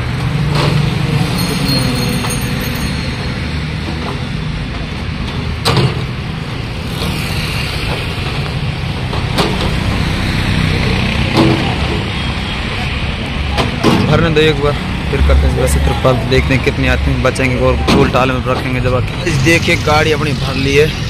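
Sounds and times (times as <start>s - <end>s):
engine and traffic rumble: 0.0s - 21.0s.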